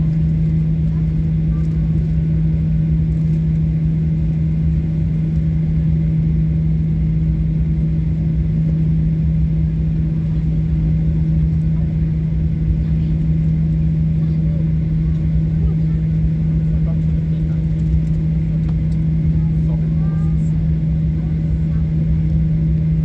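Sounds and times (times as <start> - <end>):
jet engine cabin drone: 0.0 - 23.0.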